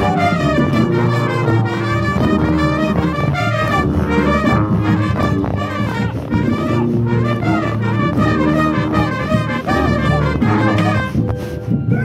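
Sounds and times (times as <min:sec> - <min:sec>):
brass band playing: 0:00.0 - 0:11.6
sousaphone bass notes: 0:00.0 - 0:12.0.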